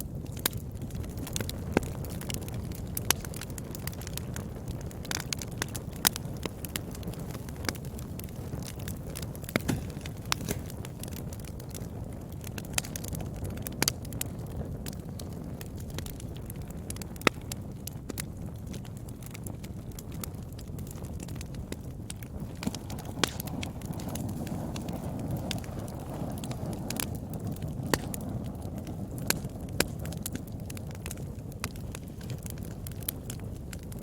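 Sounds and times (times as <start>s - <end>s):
flames burning: 0.0s - 34.0s
wood crackling and popping: 0.0s - 34.0s.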